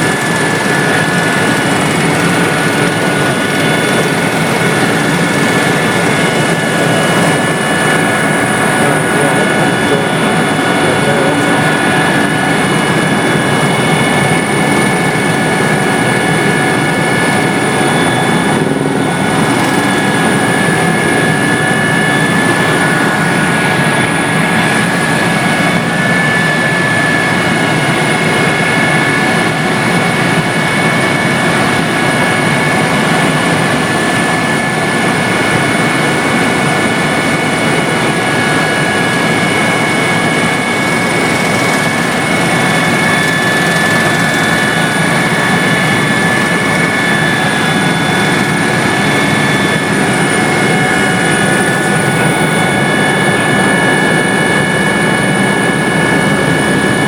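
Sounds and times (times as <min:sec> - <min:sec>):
helicopter in flight: 0:00.0 - 0:57.0
high whines: 0:00.0 - 0:57.0.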